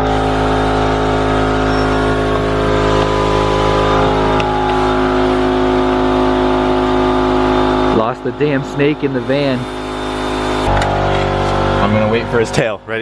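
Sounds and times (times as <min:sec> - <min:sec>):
motor humming steadily: 0:00.0 - 0:13.0.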